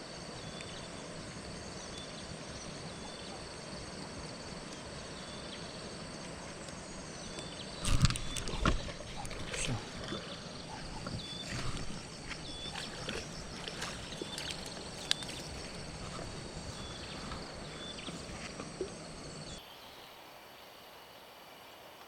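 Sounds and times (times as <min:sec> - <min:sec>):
insect drone with chirps: 0:00.0 - 0:22.0.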